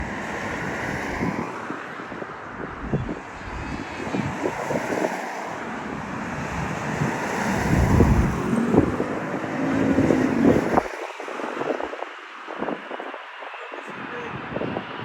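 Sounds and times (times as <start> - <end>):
jet engine roar: 0.0 - 15.0
wind buffeting microphone: 0.0 - 15.0.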